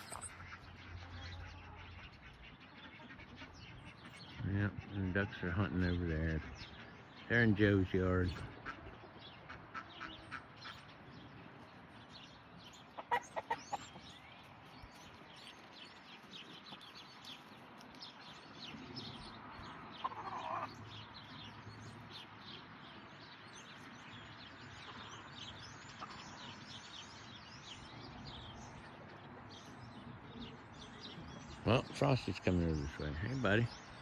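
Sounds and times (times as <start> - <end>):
chickens clucking: 0.0 - 34.0
small birds chirping: 0.0 - 34.0.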